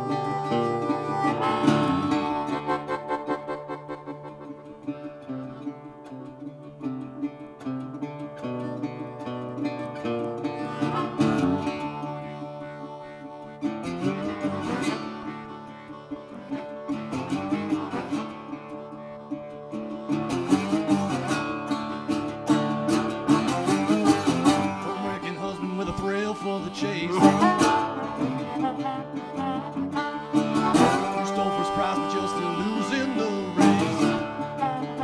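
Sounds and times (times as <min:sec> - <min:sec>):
harmonica solo: 0:00.0 - 0:35.0
strummed acoustic guitar: 0:00.0 - 0:35.0.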